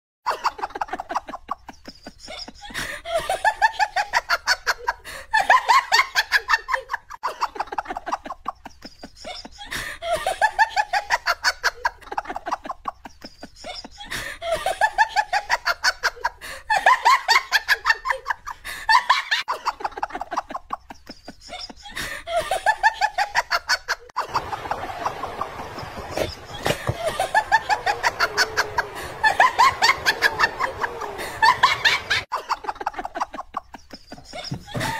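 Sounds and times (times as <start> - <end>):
high-pitched giggling laughter: 0.3 - 34.9.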